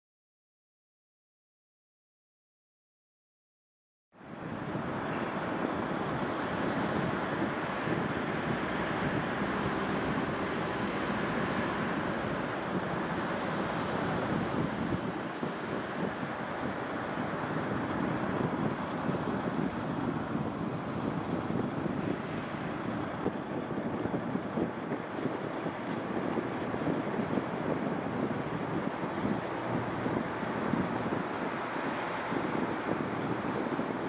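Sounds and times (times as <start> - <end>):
distant engine rumble: 4.2 - 34.0.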